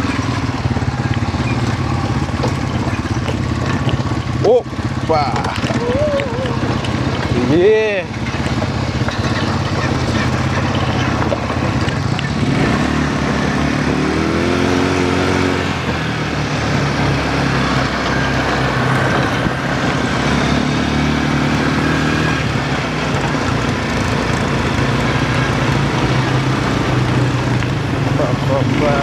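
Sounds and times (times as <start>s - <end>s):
quad bike engine revving: 0.0s - 29.0s.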